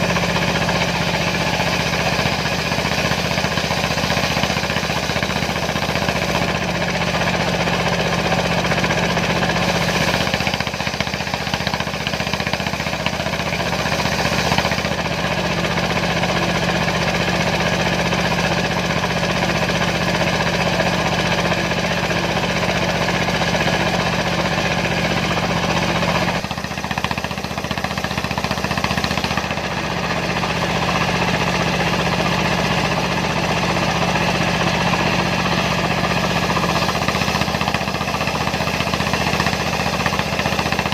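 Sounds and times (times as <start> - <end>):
diesel engine driving circular saw: 0.0 - 40.9.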